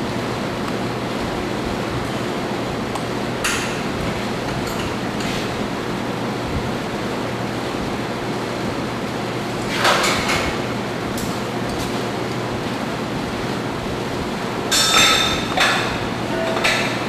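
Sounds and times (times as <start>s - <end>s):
steady hiss and hum: 0.0s - 17.0s.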